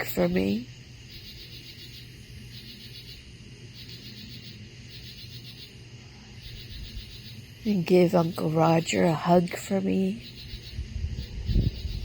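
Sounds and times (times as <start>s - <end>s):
insects chirping in pulsed trills: 0.0s - 12.0s.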